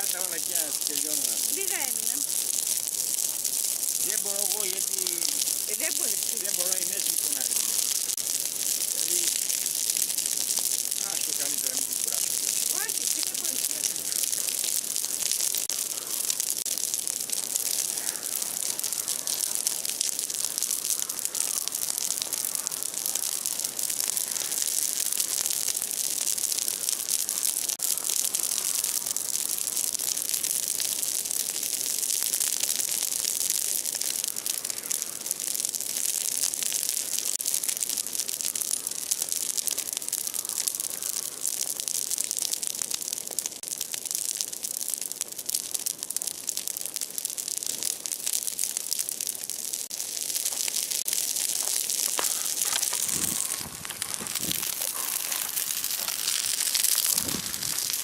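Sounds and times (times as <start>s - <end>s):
bonfire crackling and popping: 0.0s - 58.0s
fire hissing: 0.0s - 58.0s.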